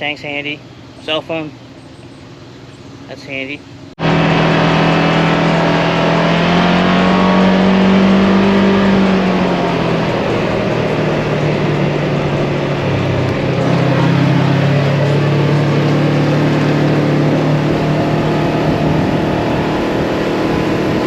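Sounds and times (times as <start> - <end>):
off-road vehicle engine running: 0.0 - 21.0.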